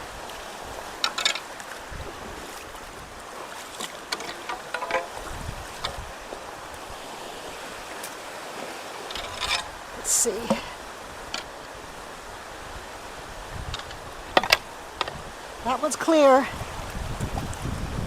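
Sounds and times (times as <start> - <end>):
water rushing through culverts: 0.0 - 18.0.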